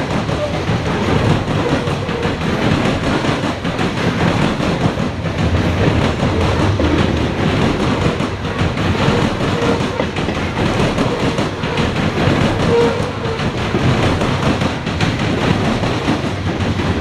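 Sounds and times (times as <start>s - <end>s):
train wheels rumbling on rail: 0.0s - 17.0s
wheels clicking and clattering: 0.0s - 17.0s.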